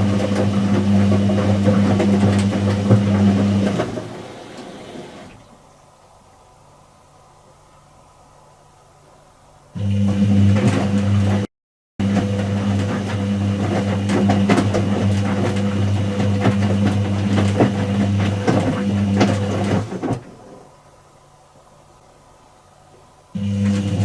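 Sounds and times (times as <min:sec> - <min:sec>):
washing machine hum: 0:00.0 - 0:24.0.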